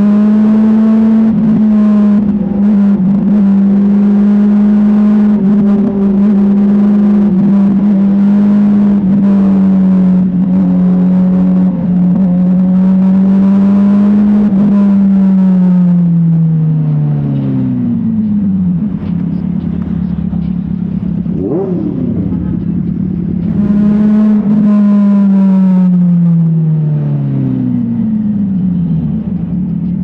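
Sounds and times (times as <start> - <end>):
motorcycle engine running: 0.0 - 30.0
road noise: 0.0 - 30.0.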